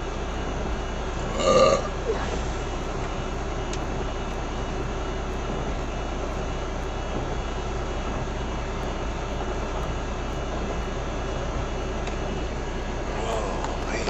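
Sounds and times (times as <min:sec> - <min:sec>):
road noise inside cab: 0:00.0 - 0:14.0
truck engine drone: 0:00.0 - 0:14.0.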